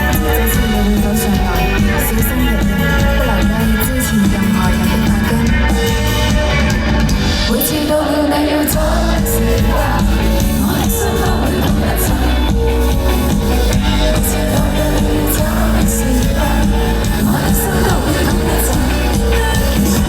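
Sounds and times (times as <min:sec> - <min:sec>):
live band playing: 0:00.0 - 0:20.0
person singing: 0:00.0 - 0:20.0.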